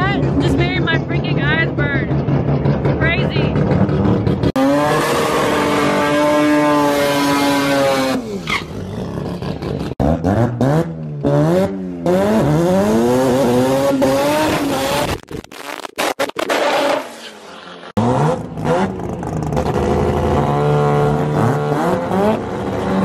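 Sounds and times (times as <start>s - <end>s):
car engine at high revs: 0.0s - 23.0s
drag car engine revving: 0.0s - 23.0s.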